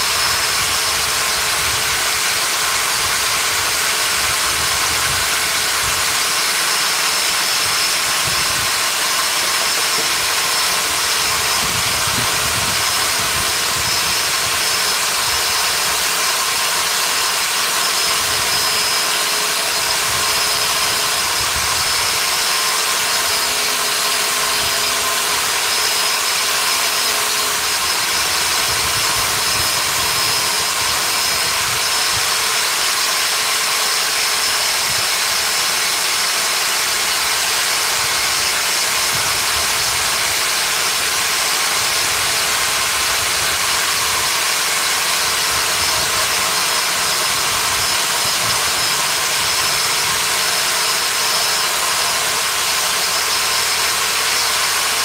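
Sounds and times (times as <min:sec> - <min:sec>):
power tool whining: 0:00.0 - 0:55.0.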